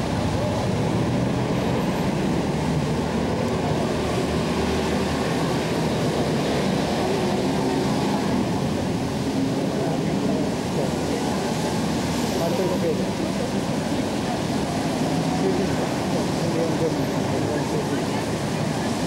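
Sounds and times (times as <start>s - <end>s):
traffic on wet road: 0.0s - 19.0s.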